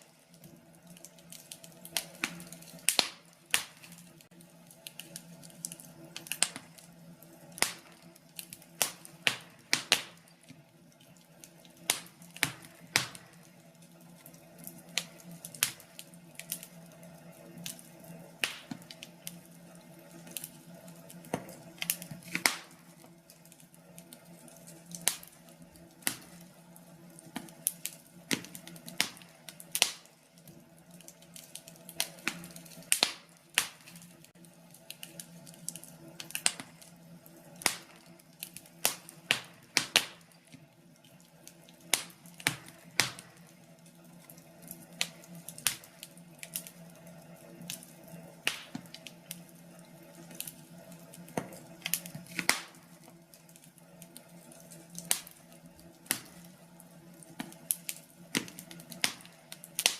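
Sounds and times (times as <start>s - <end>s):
faint steady hum: 0.0s - 59.9s
fire crackling: 0.0s - 59.9s.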